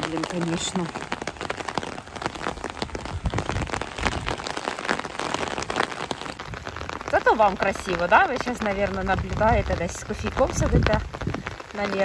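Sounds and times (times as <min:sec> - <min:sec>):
rain drops hitting umbrella: 0:00.0 - 0:12.0
steady hiss of falling rain: 0:00.0 - 0:12.0.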